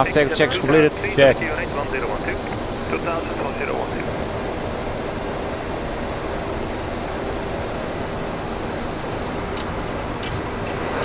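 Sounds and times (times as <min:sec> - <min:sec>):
faint steady hum: 0:00.0 - 0:11.0
rushing air and engine noise: 0:00.0 - 0:11.0.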